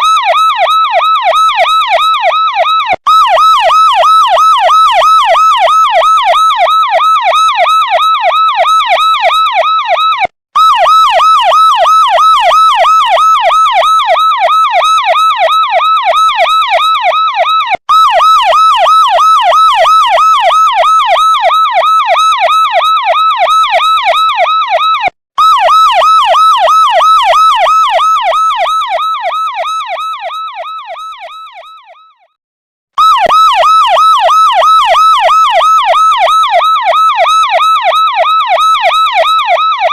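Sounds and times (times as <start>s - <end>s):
police siren yelping: 0.0s - 32.4s, 33.0s - 39.9s.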